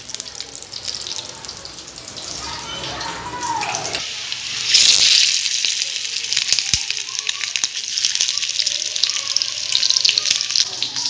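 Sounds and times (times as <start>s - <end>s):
sausages sizzling in a frying pan: 0.0s - 3.1s, 3.9s - 11.0s.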